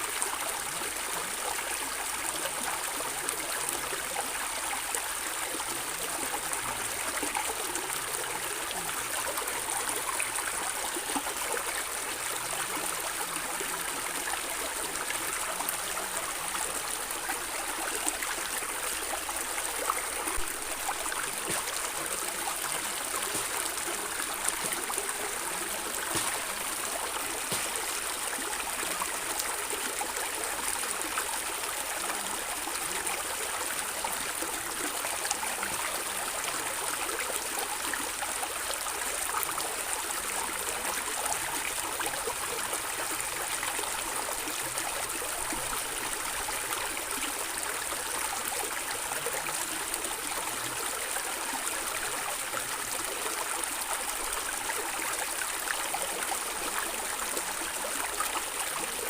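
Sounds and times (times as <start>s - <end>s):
stream gurgling and trickling: 0.0s - 59.0s.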